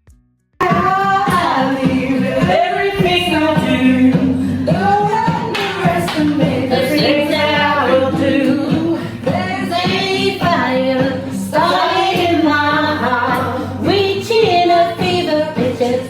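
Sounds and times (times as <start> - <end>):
backing track: 0.1 - 16.0
woman singing karaoke: 0.6 - 16.0.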